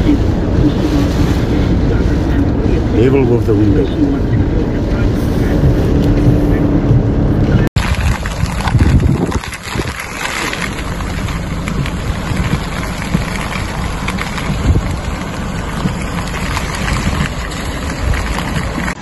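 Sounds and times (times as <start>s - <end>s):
wind buffeting microphone: 0.0s - 10.1s, 10.7s - 19.0s
heavy rain: 0.0s - 19.0s.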